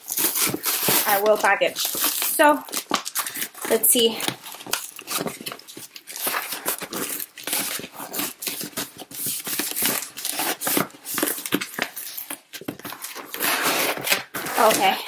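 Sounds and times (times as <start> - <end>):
cardboard box being torn open: 0.0 - 15.0.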